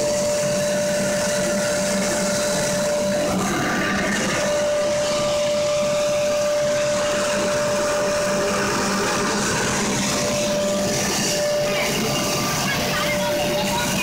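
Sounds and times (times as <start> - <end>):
constant machine whine: 0.0 - 14.0
granulating machine whirring: 0.0 - 14.0.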